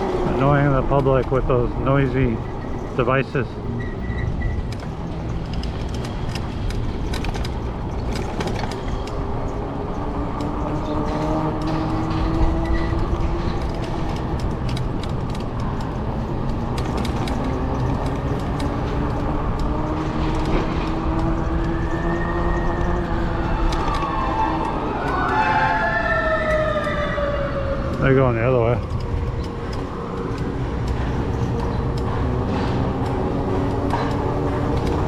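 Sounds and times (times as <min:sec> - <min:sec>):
wind and rolling noise: 0:00.0 - 0:35.0.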